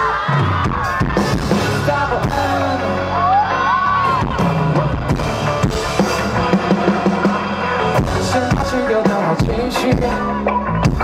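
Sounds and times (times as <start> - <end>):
bass line: 0.0 - 11.0
drum kit: 0.0 - 11.0
live band playing pop song: 0.0 - 11.0.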